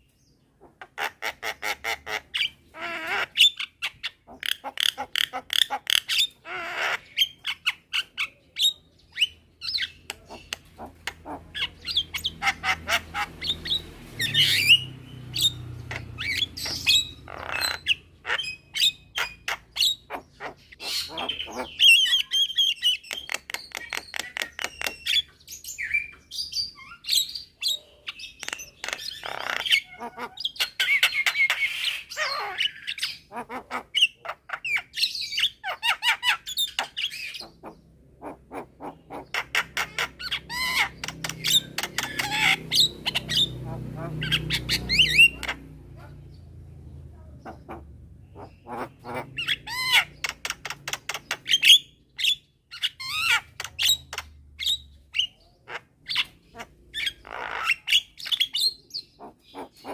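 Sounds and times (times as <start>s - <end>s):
birds clicking and squawking: 0.0s - 59.9s.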